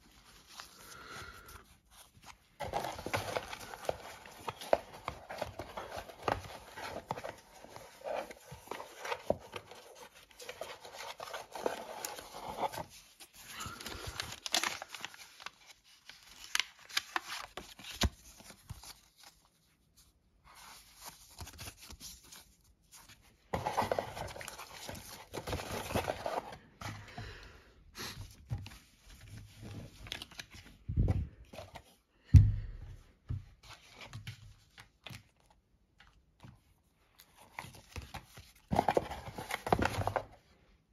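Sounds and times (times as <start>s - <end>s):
cardboard and paper rustling: 0.0s - 32.1s, 33.2s - 40.9s.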